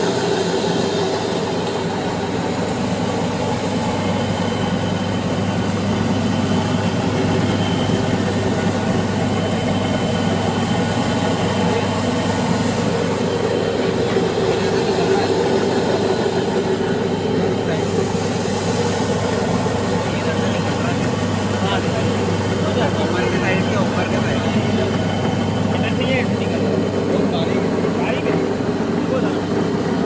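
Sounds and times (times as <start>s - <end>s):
grinder machine running: 0.0s - 30.0s.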